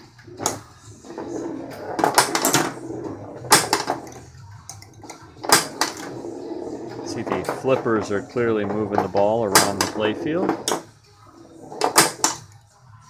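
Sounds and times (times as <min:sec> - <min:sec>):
pinball flippers clacking: 0:01.2 - 0:10.9, 0:11.7 - 0:12.5.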